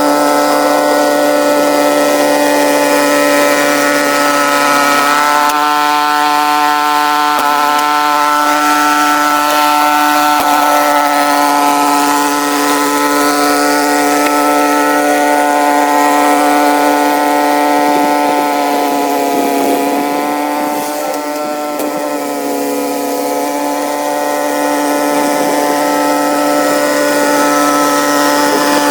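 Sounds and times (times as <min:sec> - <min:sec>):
snowblower engine running: 0:00.0 - 0:28.9.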